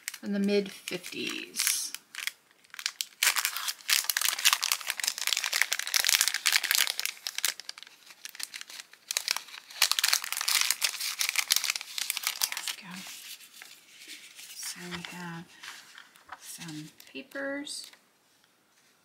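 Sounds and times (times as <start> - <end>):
cellophane packet crinkling: 0.0 - 17.2.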